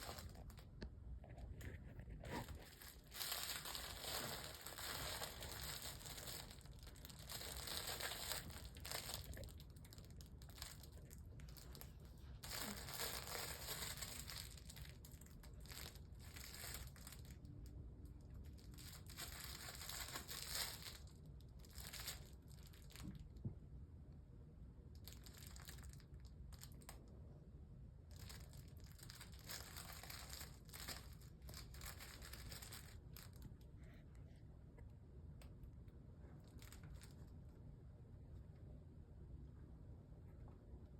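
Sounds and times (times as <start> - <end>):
crinkling and rustling: 0.0 - 23.6, 24.9 - 27.1, 28.1 - 35.6, 36.2 - 37.6.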